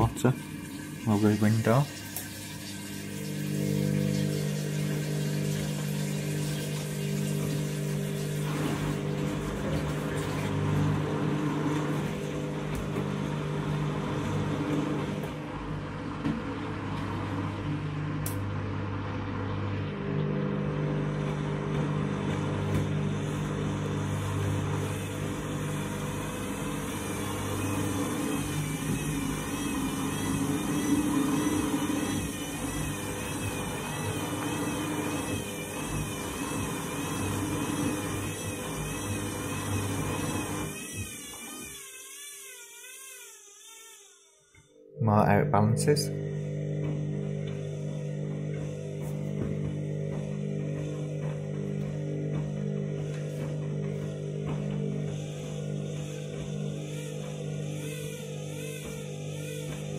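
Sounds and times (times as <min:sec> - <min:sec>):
washing machine drum humming: 0:00.0 - 0:41.4, 0:45.0 - 0:59.9.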